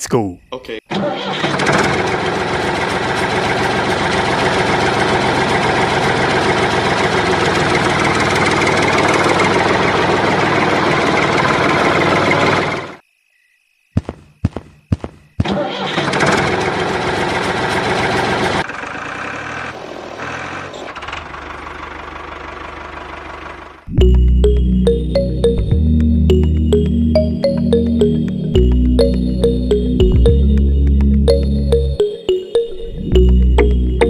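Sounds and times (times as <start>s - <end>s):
diesel tractor engine running: 0.9s - 13.0s, 15.4s - 32.4s, 33.0s - 34.0s.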